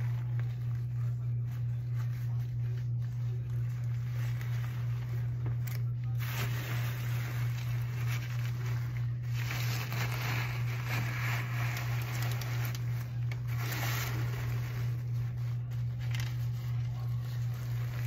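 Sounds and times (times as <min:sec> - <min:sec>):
pad crinkling and rustling: 0:00.0 - 0:18.0
steady low hum: 0:00.0 - 0:18.0.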